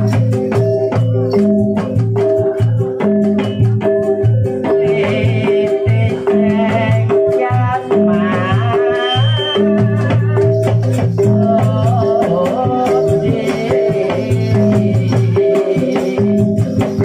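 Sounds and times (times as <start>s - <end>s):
drums and rattling percussion: 0.0s - 17.0s
wavering melody line: 0.0s - 17.0s.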